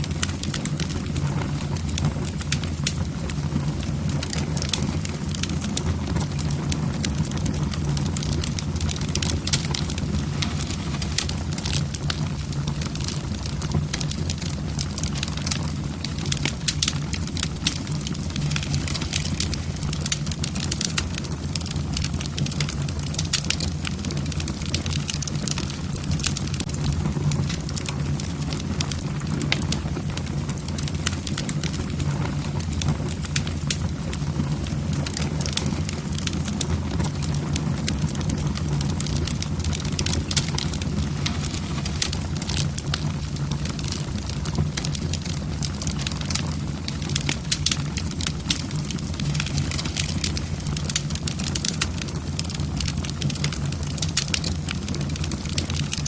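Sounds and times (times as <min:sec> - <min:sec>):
logs crackling and popping: 0:00.0 - 0:56.0
low rumble of flames: 0:00.0 - 0:56.0.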